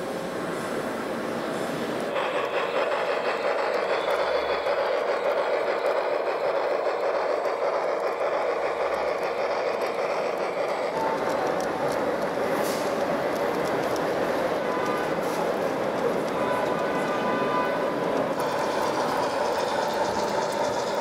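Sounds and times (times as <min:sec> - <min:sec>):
model train humming on track: 0:00.0 - 0:21.0.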